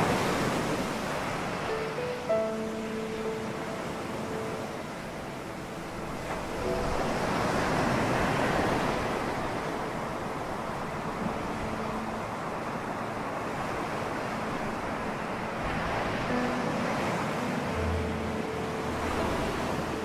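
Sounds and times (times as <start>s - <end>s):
sea waves washing on shore: 0.0s - 20.0s.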